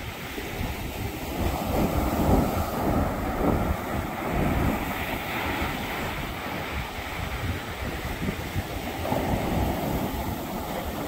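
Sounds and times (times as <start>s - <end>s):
small waves breaking on beach: 0.0s - 11.0s
wind rumbling on microphone: 0.0s - 11.0s.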